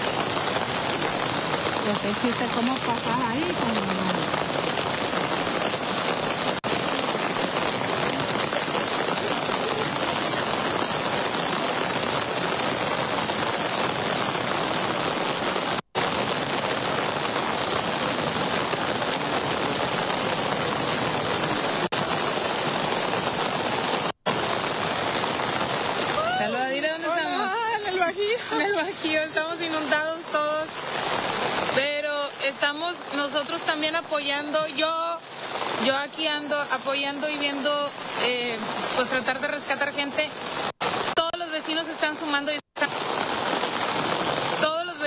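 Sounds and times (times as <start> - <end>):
flowing floodwater: 0.0 - 45.0
heavy rain hissing: 0.0 - 45.0.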